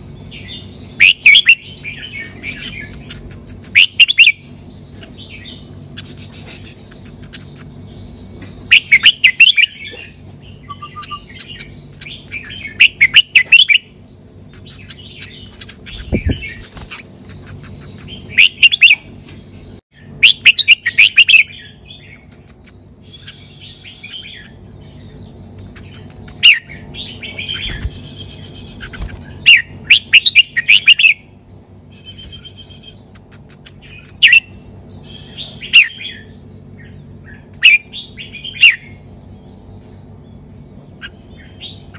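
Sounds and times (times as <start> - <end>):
bird singing bubbly song: 0.0 - 41.9
faint bird chirping: 0.0 - 41.9.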